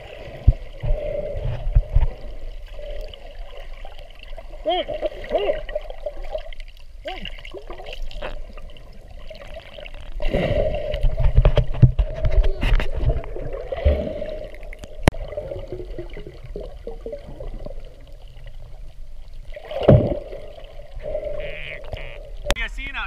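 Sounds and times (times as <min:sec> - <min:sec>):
water swishing and bubbling: 0:00.0 - 0:23.0.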